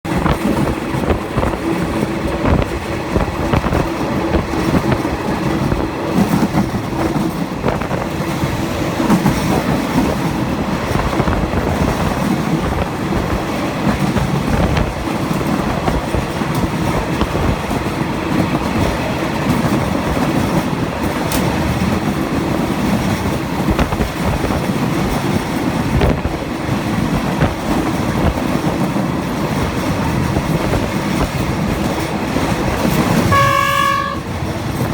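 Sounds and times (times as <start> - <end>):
train wheels rumbling on rails: 0.0 - 34.9
wheels clacking over rail joints: 0.1 - 34.9.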